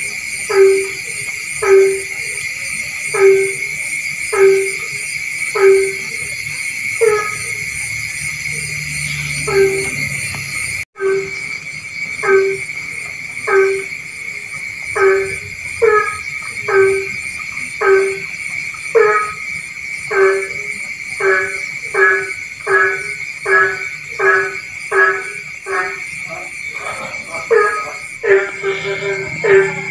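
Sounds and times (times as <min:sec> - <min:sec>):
frog croaking: 0:00.0 - 0:29.9
high-pitched background drone: 0:00.0 - 0:29.9.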